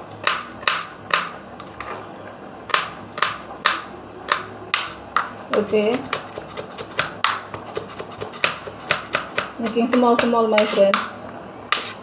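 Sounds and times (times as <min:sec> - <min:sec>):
knife chopping on cutting board: 0:00.2 - 0:02.0, 0:02.7 - 0:12.0.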